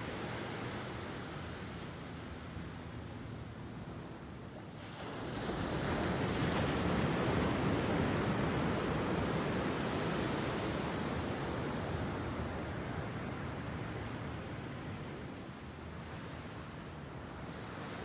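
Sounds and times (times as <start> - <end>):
waves breaking on a beach: 0.0 - 15.3, 15.9 - 18.0.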